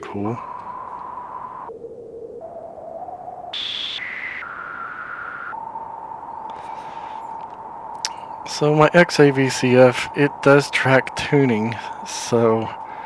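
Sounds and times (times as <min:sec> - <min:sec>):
filtered noise whistling at stepped pitches: 0:00.0 - 0:13.0.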